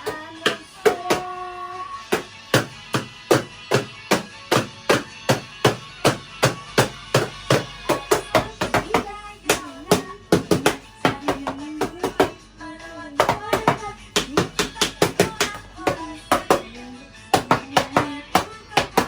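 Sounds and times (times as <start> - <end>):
background music with percussive beat: 0.0 - 1.4, 2.0 - 12.5, 13.1 - 19.0.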